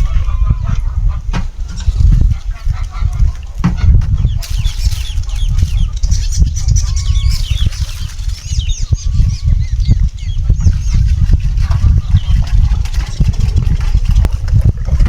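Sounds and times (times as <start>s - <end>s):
small birds chirping: 0.0s - 14.9s
heavy low rumble: 0.0s - 15.0s.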